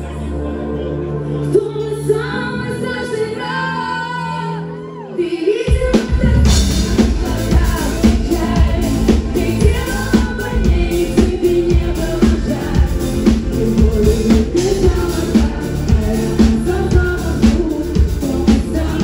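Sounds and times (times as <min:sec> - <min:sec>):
band playing pop music: 0:00.0 - 0:19.0
woman singing: 0:01.3 - 0:19.0.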